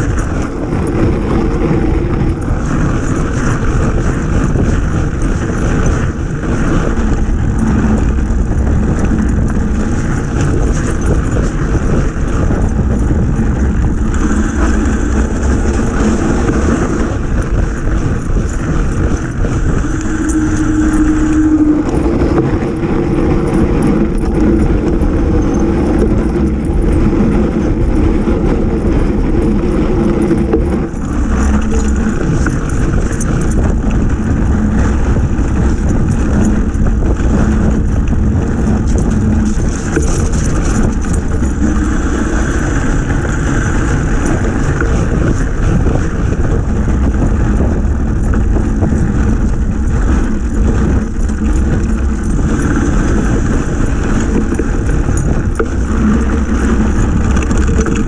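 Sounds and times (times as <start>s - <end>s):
bike rolling over snow: 0.0s - 58.0s
low hum: 0.0s - 58.0s.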